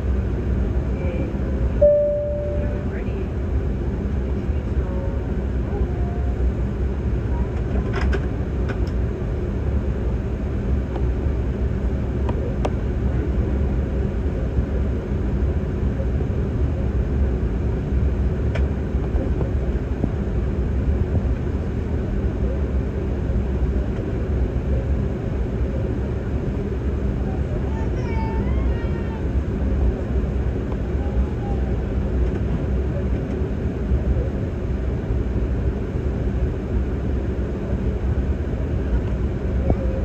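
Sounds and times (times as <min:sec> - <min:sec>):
jet cabin engine rumble: 0:00.0 - 0:40.0.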